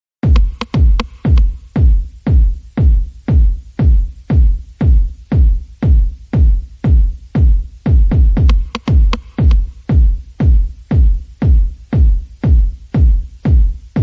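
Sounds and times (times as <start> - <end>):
deep kick drum: 0.2 - 14.0
electronic dance music: 0.2 - 14.0.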